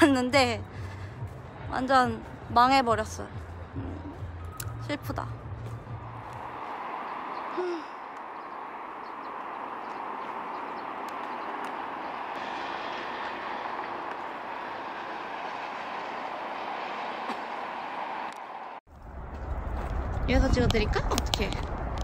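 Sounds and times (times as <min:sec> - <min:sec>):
distant road traffic roar: 0:00.0 - 0:22.0.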